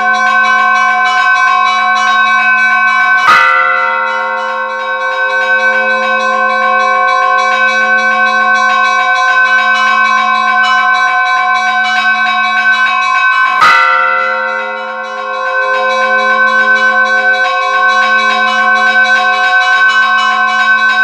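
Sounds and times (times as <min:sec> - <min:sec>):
hum of large bells: 0:00.0 - 0:21.0
loud bell clang: 0:00.0 - 0:21.0
small church bells ringing: 0:00.0 - 0:21.0.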